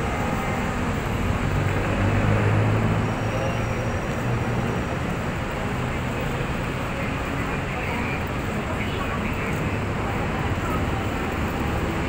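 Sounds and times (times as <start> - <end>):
rumble of traffic: 0.0 - 12.0.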